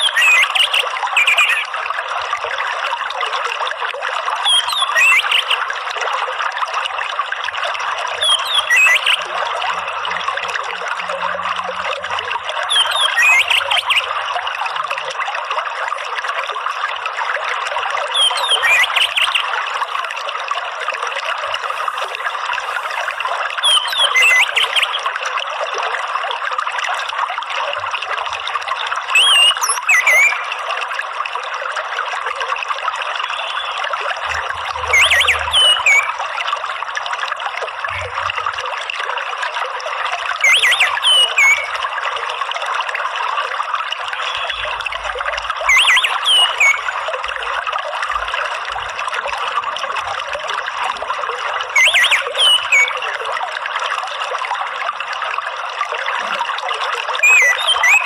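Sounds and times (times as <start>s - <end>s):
trickling water: 0.0s - 58.0s.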